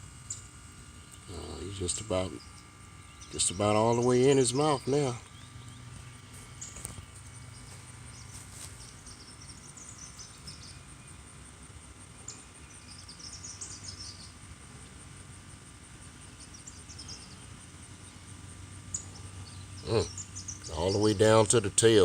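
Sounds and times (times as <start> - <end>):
steady low hum: 0.0 - 22.0
small bird chirping: 0.2 - 11.3, 12.2 - 14.4, 16.3 - 21.3.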